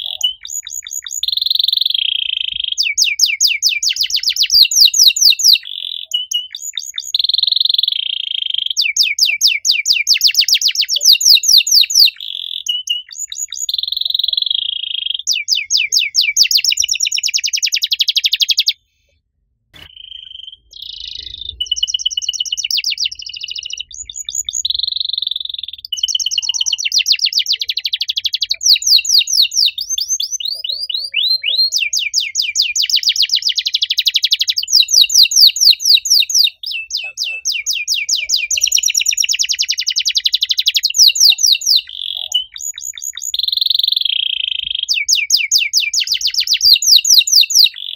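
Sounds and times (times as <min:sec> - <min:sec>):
canary singing trills: 0:00.0 - 0:18.8, 0:19.8 - 0:47.9.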